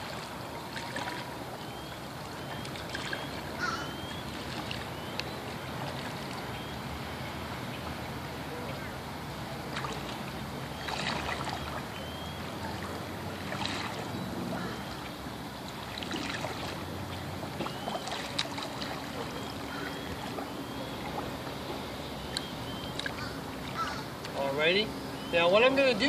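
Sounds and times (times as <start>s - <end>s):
paddle splashing in water: 0.0s - 24.6s
steady background hiss: 0.0s - 26.0s.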